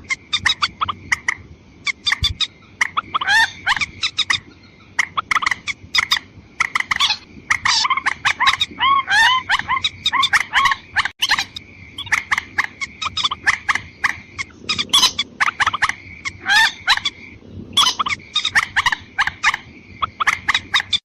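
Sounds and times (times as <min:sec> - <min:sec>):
bird clucking calls: 0:00.0 - 0:21.0.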